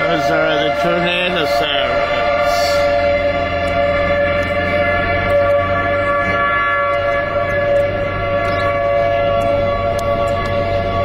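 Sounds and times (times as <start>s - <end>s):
tornado warning siren wailing: 0.0s - 11.0s.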